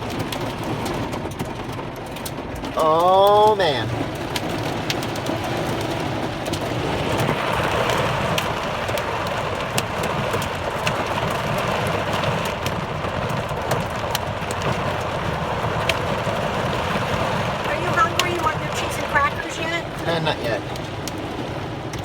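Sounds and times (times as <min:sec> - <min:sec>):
hailstones striking vehicle: 0:00.0 - 0:22.0
heavy rain on vehicle roof: 0:00.0 - 0:22.0.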